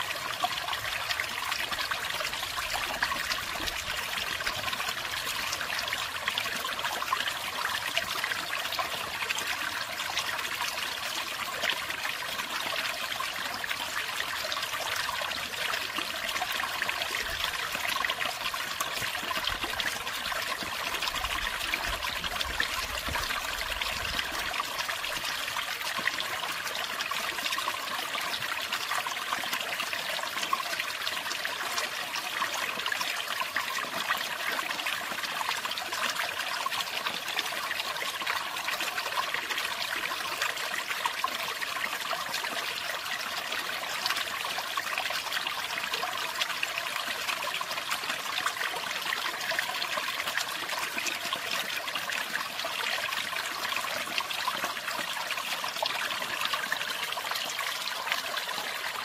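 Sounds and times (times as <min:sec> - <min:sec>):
stream splashing over rocks: 0:00.0 - 0:59.0.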